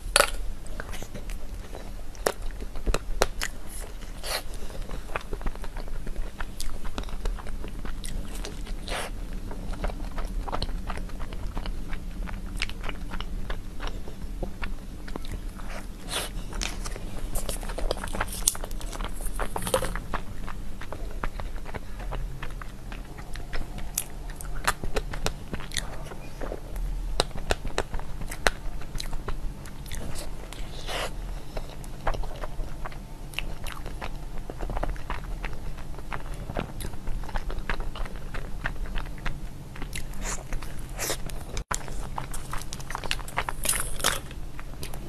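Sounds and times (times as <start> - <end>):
biting and chewing with mouth clicks: 0.0 - 45.0.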